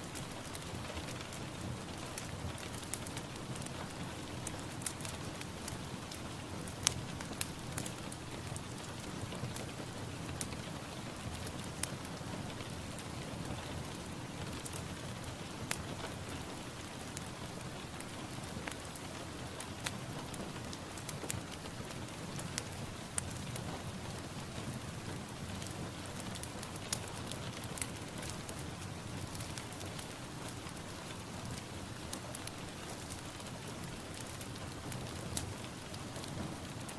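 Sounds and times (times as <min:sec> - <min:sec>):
steady rain hiss: 0:00.0 - 0:36.9.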